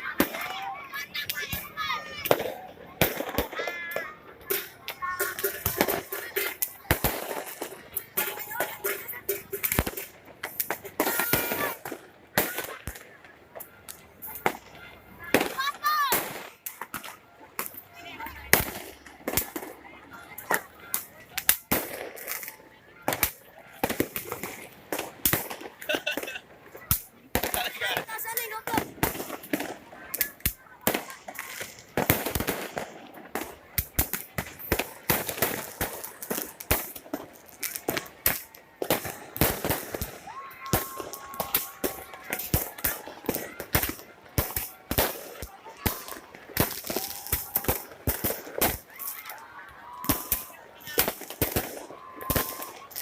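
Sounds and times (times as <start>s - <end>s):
fireworks bangs: 0.0s - 13.6s, 14.2s - 53.0s
people's voices: 0.0s - 53.0s.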